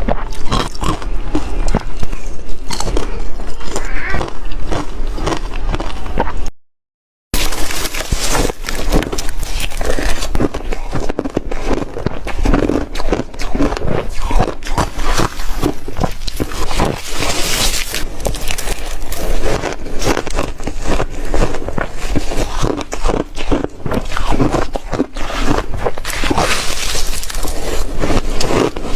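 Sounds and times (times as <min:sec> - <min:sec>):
chewing crunchy ice: 0:00.0 - 0:06.5, 0:07.4 - 0:28.9.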